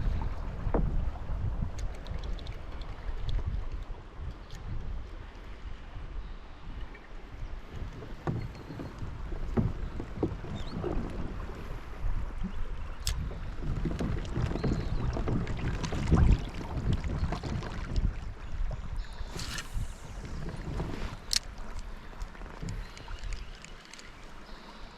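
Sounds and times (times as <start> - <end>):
water moving along kayak hull: 0.0 - 24.9.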